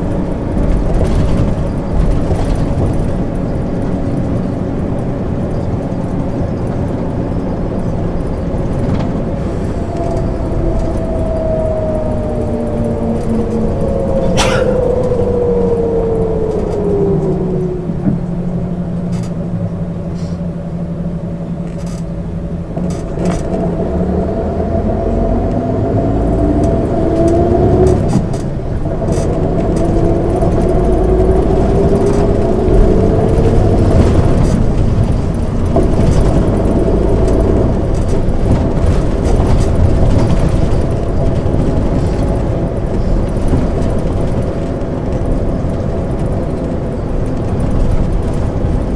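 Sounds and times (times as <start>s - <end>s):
bus engine accelerating: 0.0s - 48.9s.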